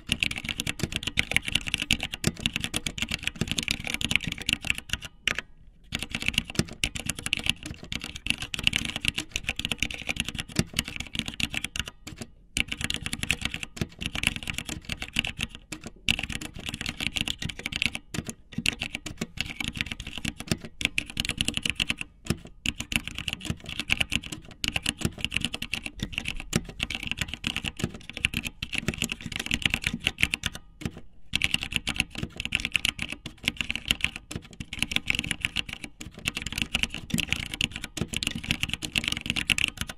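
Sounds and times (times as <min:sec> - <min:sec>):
rapid irregular clicking: 0:00.0 - 0:39.9.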